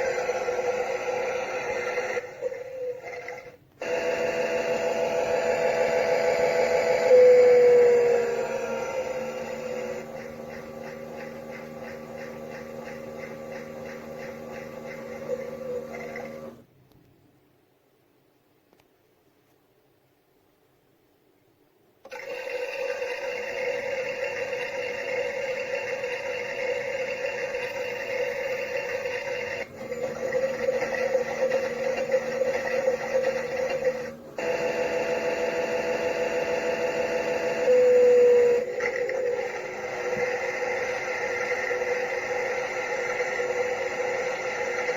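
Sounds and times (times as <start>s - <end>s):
toy washing machine motor hum: 0.0s - 16.6s, 22.1s - 44.9s.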